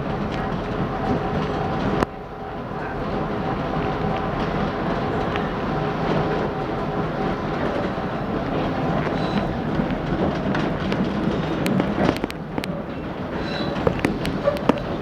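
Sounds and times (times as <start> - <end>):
train rumbling on tracks: 0.0 - 15.0
wheels clicking over rail joints: 0.0 - 15.0.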